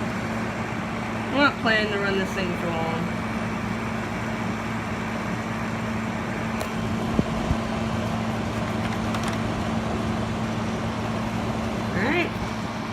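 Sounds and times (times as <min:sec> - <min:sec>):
air conditioner fan blowing: 0:00.0 - 0:12.9.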